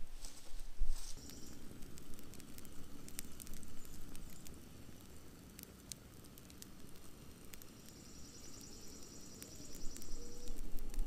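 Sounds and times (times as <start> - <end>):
campfire crackling and popping: 0.3 - 11.0.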